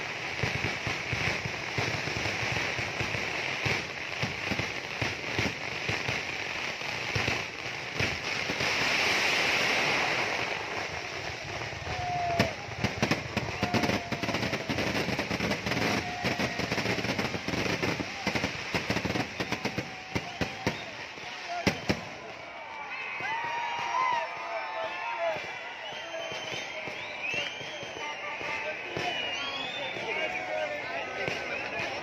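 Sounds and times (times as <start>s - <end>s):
fireworks crackling hiss: 0.0s - 32.0s
fireworks sharp bangs: 0.0s - 32.0s.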